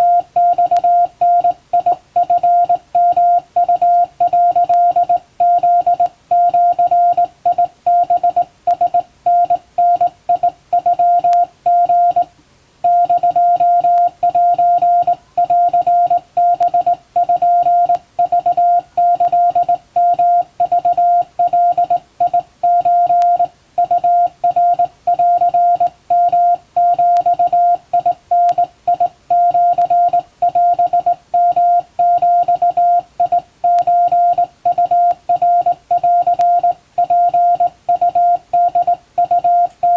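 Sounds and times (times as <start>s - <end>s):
morse code beeps: 0.0s - 12.3s, 12.9s - 39.9s.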